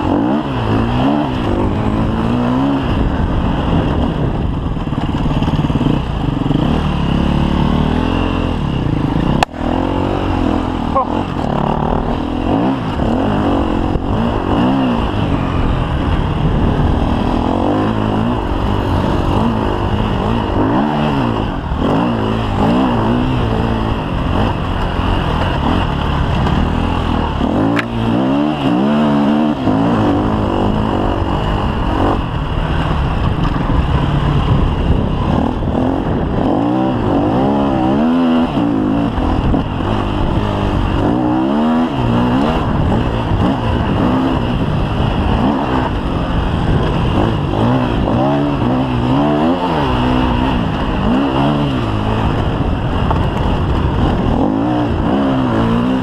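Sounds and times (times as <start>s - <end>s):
motorcycle engine revving: 0.0s - 56.0s
wind rushing on microphone: 0.0s - 56.0s.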